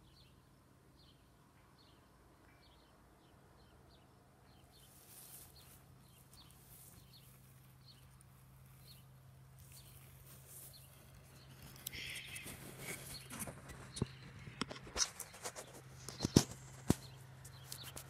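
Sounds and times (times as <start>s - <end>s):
faint bird chirps: 1.0s - 18.0s.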